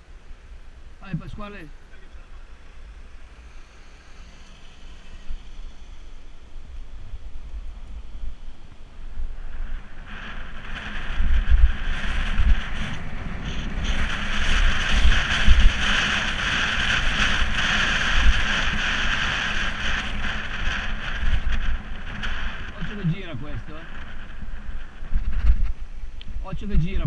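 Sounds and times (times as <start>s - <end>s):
steady rushing hiss: 0.0s - 27.0s
low rumbles: 1.0s - 27.0s
wind buffeting microphone: 5.2s - 27.0s.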